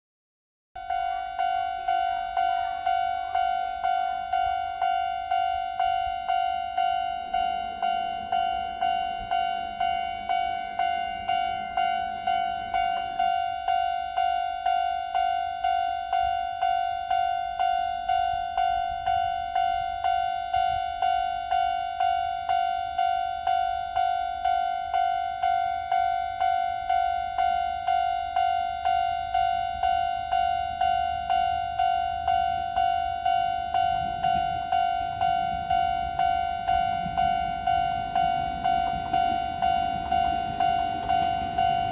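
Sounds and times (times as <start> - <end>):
level crossing bell ringing: 0.8 - 41.9.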